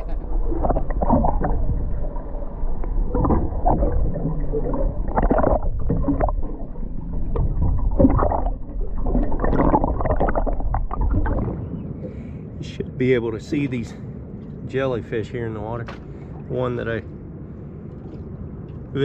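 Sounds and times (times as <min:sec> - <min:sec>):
water lapping against boat hull: 0:00.0 - 0:12.4, 0:15.8 - 0:19.0
low rumble: 0:00.0 - 0:19.0.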